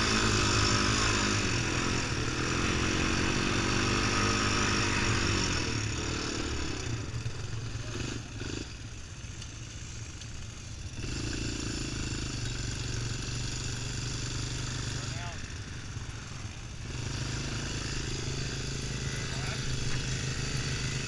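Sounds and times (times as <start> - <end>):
quad bike engine revving: 0.0 - 9.1, 10.5 - 21.0.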